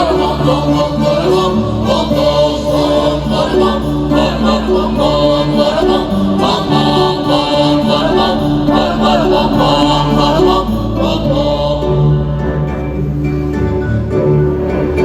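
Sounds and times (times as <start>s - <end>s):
group of voices singing: 0.0s - 15.0s
held low notes: 0.0s - 15.0s.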